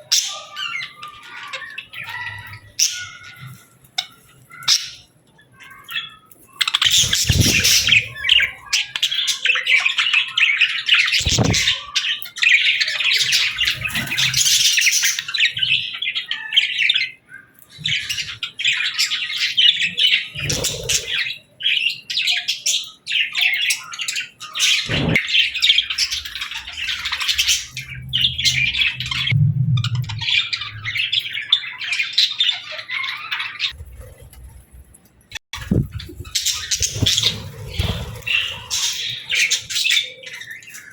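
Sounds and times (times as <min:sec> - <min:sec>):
budgies chattering and chirping: 0:00.0 - 0:40.9.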